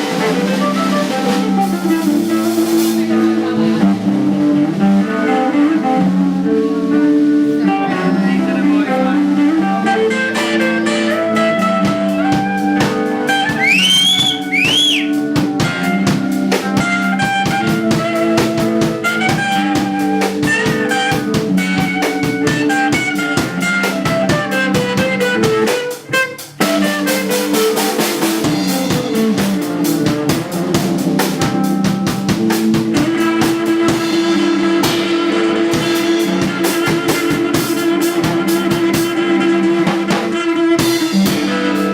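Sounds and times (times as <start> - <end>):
live band playing: 0.0 - 41.9
sliding bent guitar notes: 0.0 - 41.9.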